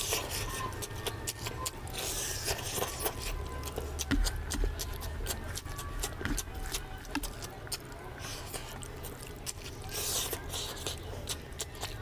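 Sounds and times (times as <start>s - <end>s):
fingers squishing food: 0.0s - 12.0s
sharp wet clicks: 0.0s - 12.0s
wet chewing and lip smacks: 0.0s - 12.0s.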